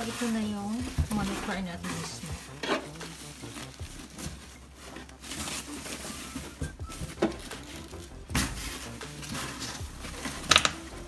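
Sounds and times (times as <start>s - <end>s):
foam and plastic wrap crinkling: 0.0s - 11.0s.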